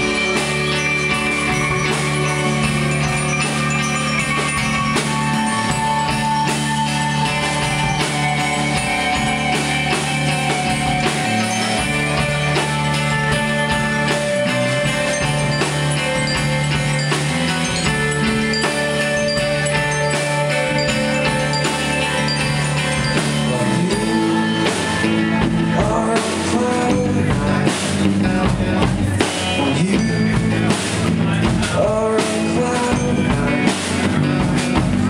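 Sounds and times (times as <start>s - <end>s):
bass guitar: 0.0s - 35.0s
drum kit beat: 0.0s - 35.0s
electric guitars: 0.0s - 35.0s.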